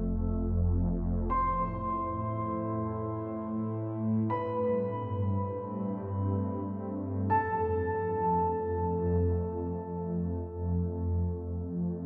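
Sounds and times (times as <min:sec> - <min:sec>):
ambient music soft held chord: 0:00.0 - 0:12.0.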